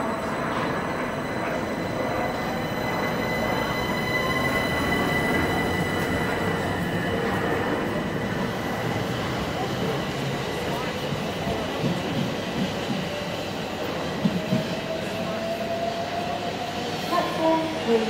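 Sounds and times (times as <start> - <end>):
train wheels rumbling: 0.0 - 16.4.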